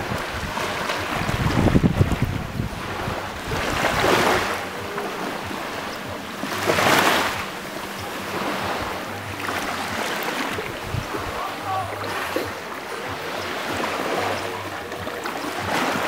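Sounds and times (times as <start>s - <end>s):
waves washing up pebble shore: 0.0s - 16.0s.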